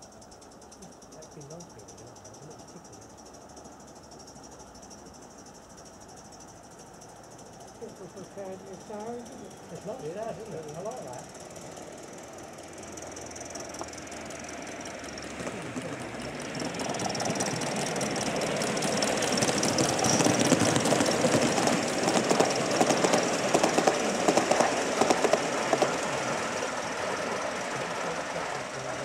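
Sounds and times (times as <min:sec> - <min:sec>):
model steam locomotive running: 0:00.0 - 0:29.0
wheels clicking: 0:00.0 - 0:29.0
steady steam hiss: 0:05.0 - 0:29.0.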